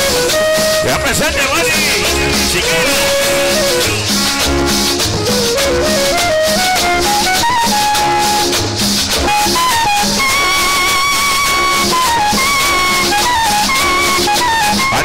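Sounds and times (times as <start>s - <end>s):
cumbia over a sound system: 0.0s - 15.0s.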